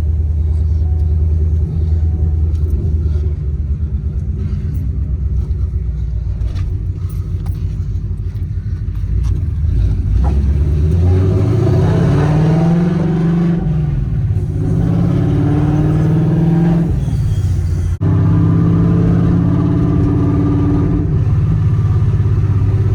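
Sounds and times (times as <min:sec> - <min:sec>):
car engine accelerating: 0:00.0 - 0:22.9.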